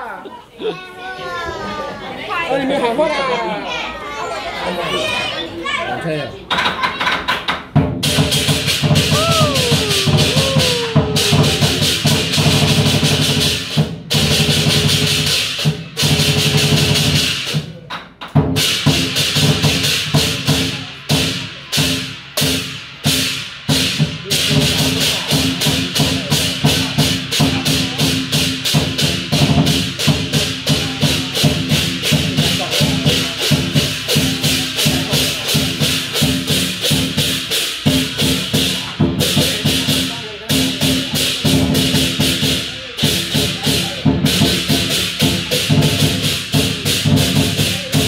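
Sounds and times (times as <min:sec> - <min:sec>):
drum beating: 0:06.5 - 0:48.0
crashing cymbals: 0:08.0 - 0:17.6, 0:18.6 - 0:48.0.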